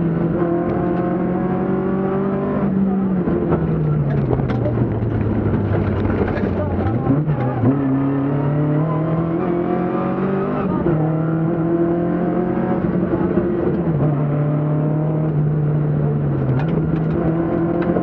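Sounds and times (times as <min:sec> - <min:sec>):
rally car engine running hard: 0:00.0 - 0:18.0.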